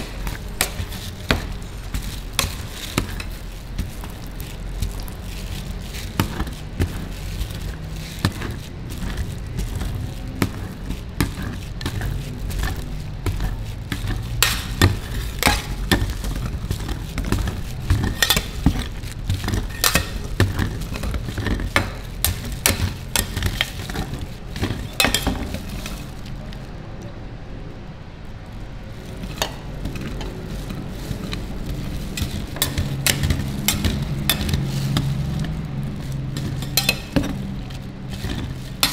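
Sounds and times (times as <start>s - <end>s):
metal spatulas tapping and scraping: 0.0s - 26.3s, 29.1s - 38.9s.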